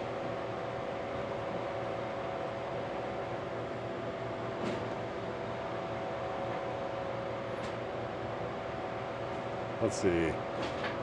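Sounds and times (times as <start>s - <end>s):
equipment humming and whirring: 0.0s - 11.0s.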